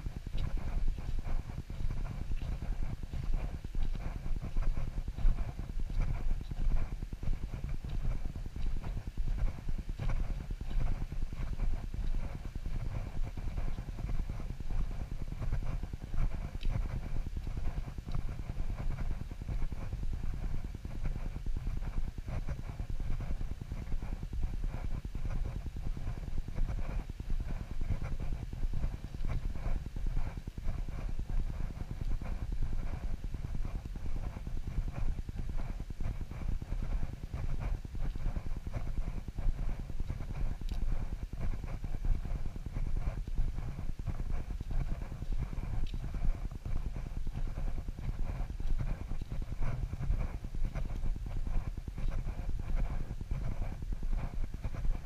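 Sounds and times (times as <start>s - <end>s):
footsteps on a dirt path: 0.0s - 55.0s
low microphone rumble: 0.0s - 55.0s.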